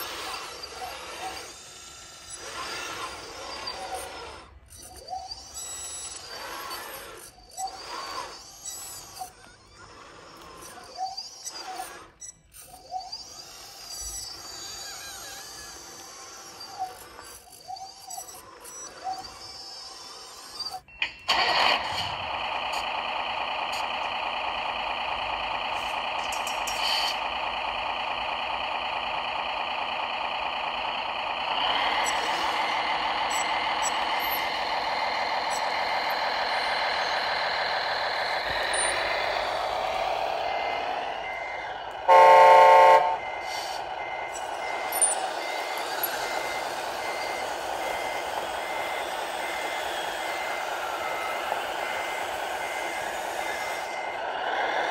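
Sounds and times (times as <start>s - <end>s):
toy tractor motor whining drone: 0.0s - 54.9s.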